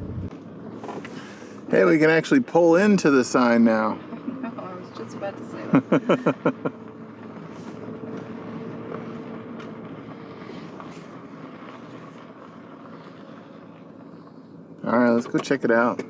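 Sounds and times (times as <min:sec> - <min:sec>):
car road and engine hum: 0:00.0 - 0:16.0.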